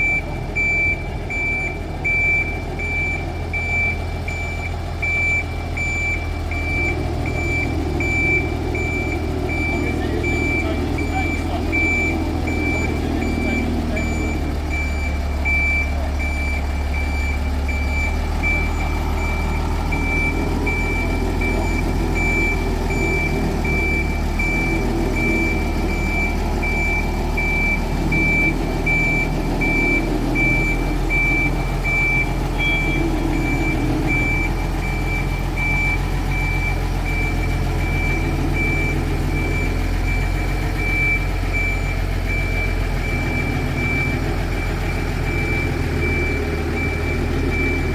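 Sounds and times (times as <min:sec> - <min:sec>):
low vehicle rumble: 0:00.0 - 0:47.9
reversing warning beeper: 0:00.0 - 0:47.9.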